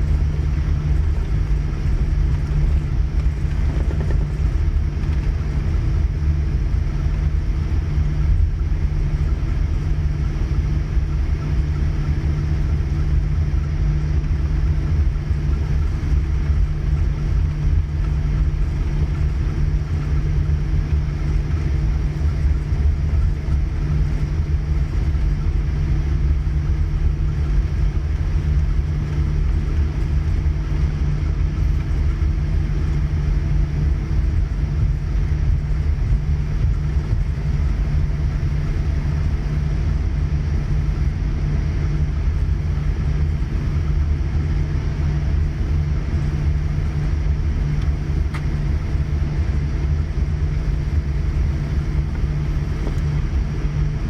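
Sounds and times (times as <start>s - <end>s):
aircraft cabin low rumble: 0.0s - 54.0s
steady hum: 0.0s - 54.0s.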